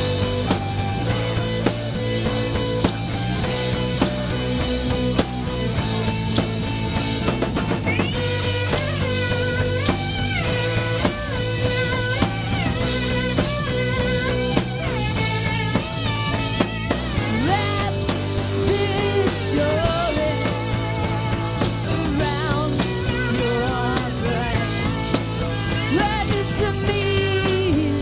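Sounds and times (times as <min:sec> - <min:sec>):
bass guitar: 0:00.0 - 0:28.0
drum kit steady beat: 0:00.0 - 0:28.0
electric guitar lead with bending notes: 0:00.0 - 0:28.0.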